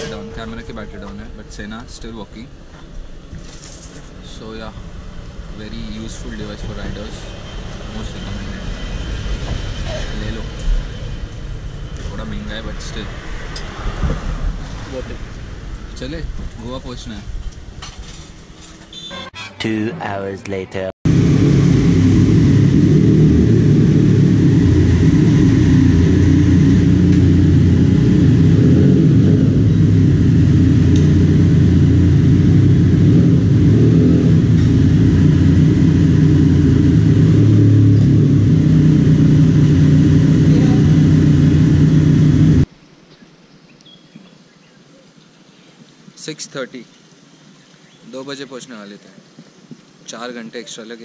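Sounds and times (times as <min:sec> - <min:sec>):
motorcycle engine rumbling: 0:00.0 - 0:19.8, 0:21.1 - 0:42.7.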